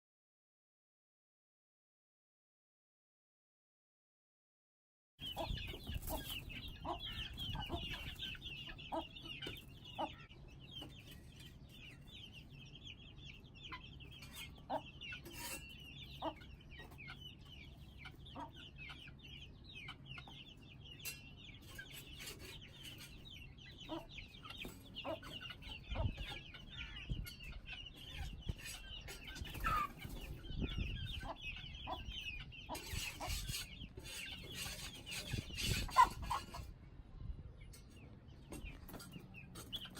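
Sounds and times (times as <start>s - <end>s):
chicks cheeping and clucking: 5.2s - 39.9s.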